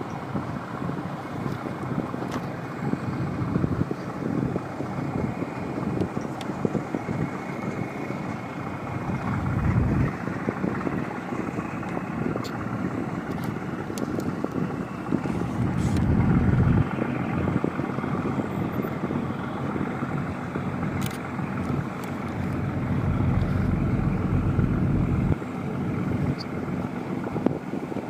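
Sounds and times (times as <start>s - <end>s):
boat diesel engine running: 0.0s - 28.0s
wind buffeting microphone: 0.0s - 28.0s.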